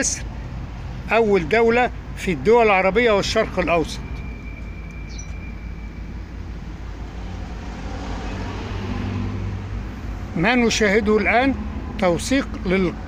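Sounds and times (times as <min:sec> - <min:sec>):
engine hum: 0:00.0 - 0:13.0
passing road traffic rumble: 0:00.0 - 0:13.0.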